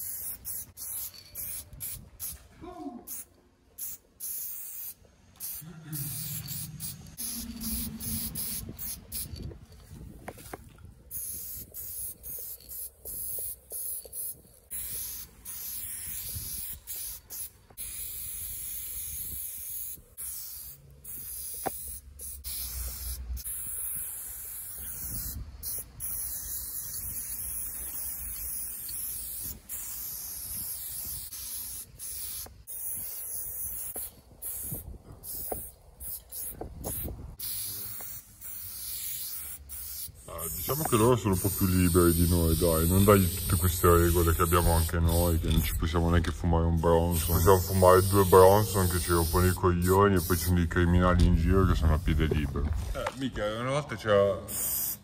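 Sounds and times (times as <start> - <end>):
spray-paint can hissing: 0.0 - 2.4, 3.1 - 9.8, 10.4 - 45.8, 46.9 - 50.5, 54.5 - 55.0.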